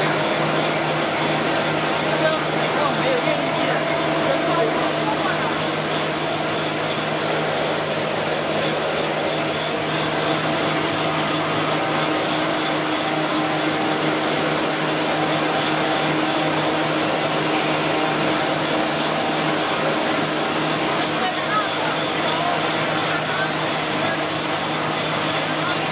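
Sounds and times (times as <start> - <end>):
low machine hum: 0.0 - 25.9
printing machine whirring: 0.0 - 25.9.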